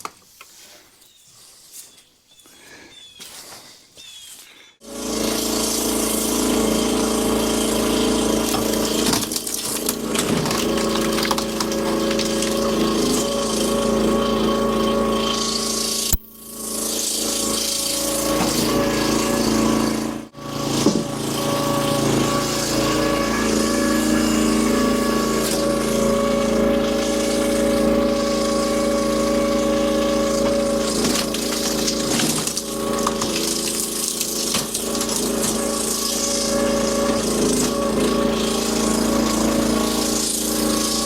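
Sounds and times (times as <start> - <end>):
engine running under load: 4.8 - 41.0.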